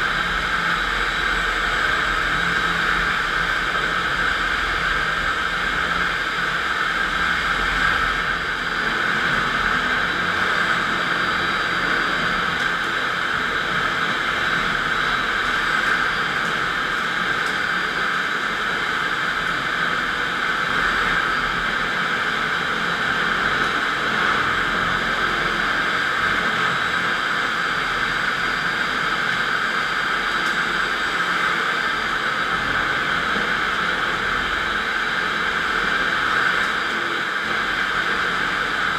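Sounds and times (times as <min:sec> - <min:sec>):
concrete floor grinder whirring: 0:00.0 - 0:38.9.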